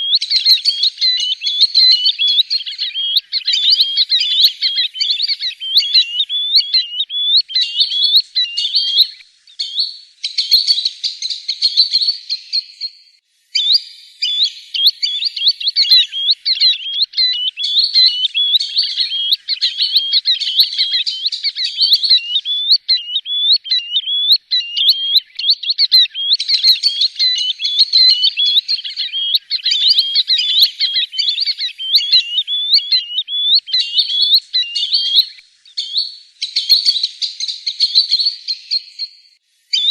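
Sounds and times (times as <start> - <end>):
sandpiper whistled calls: 0.0 - 12.8, 13.5 - 39.9.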